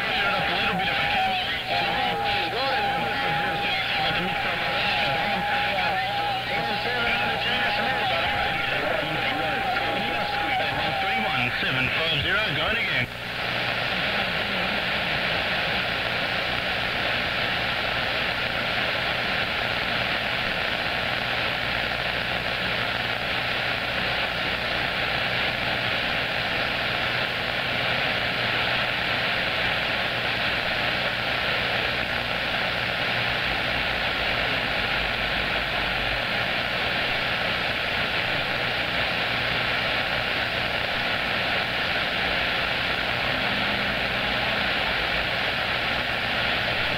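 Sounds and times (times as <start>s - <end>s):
radio static hiss: 0.0s - 46.9s.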